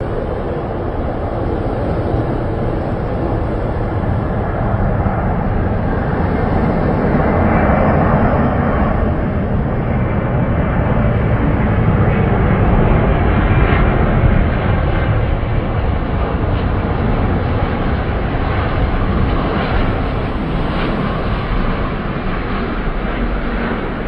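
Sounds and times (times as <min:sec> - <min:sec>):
jet engine rushing: 0:00.0 - 0:24.0.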